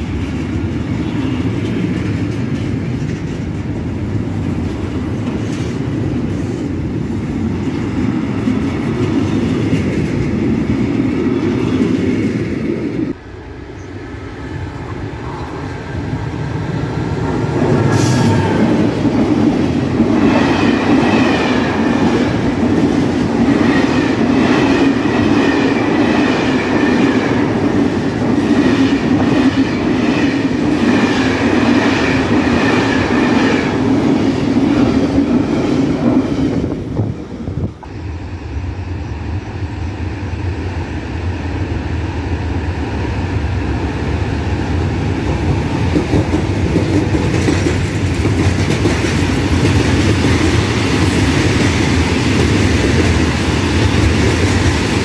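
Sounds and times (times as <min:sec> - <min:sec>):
freight wagons rumbling on rails: 0:00.0 - 0:13.2, 0:14.6 - 0:55.0.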